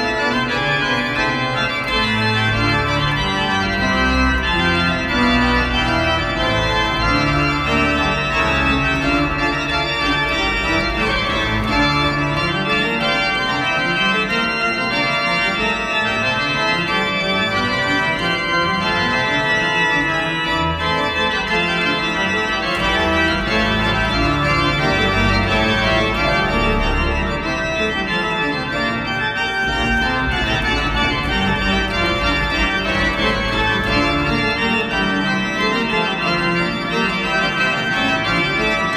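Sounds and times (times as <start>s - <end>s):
organ playing chords: 0.0s - 38.9s.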